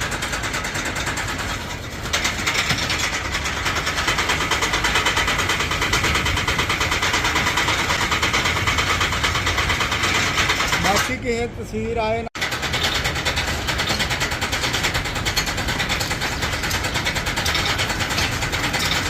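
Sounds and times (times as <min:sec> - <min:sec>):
workshop machinery pulsing: 0:00.0 - 0:19.0.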